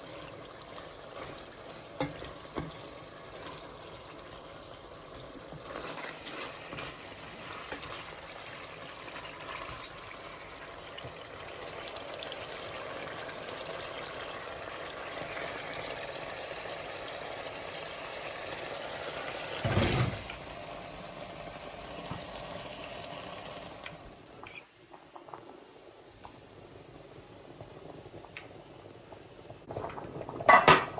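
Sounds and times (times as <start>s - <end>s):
food sizzling in a pot: 0.0s - 30.9s.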